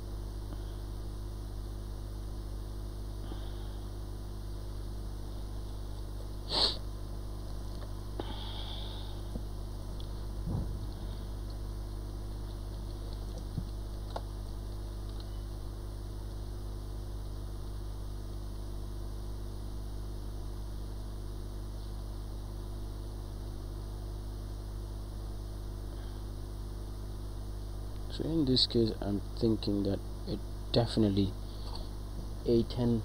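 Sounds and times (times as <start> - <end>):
hot air station hum and hiss: 0.0 - 33.0.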